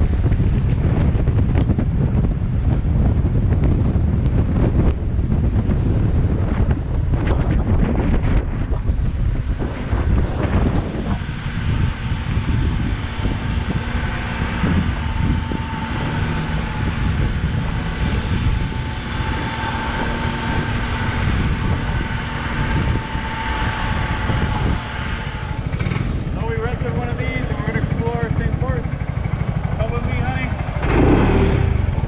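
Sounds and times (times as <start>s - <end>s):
atv engine running: 0.0s - 32.0s
steady whine: 0.0s - 32.0s
wind buffeting microphone: 0.0s - 32.0s.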